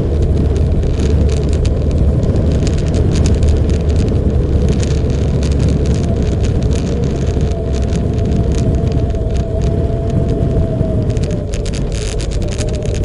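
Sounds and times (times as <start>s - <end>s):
motorcycle engine rumble: 0.0s - 13.0s
road and wind noise: 0.0s - 13.0s.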